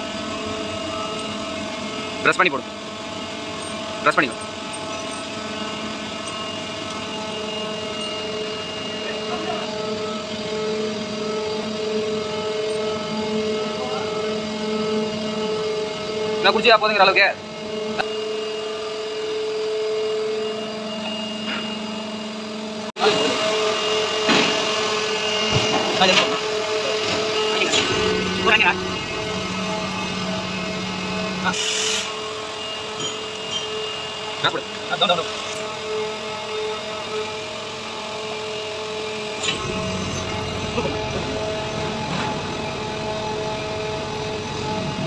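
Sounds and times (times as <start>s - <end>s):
machinery humming: 0.0s - 45.0s.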